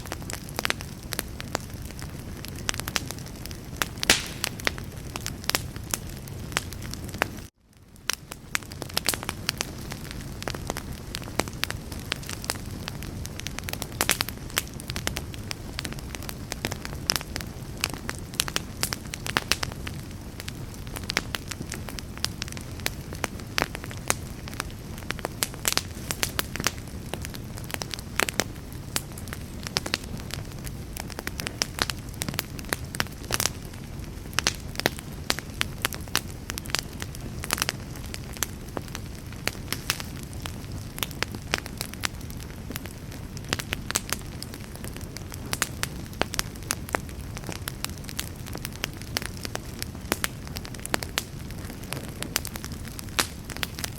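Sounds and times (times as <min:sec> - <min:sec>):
campfire crackles and pops: 0:00.0 - 0:53.9
fire rumbling hiss: 0:00.0 - 0:53.9.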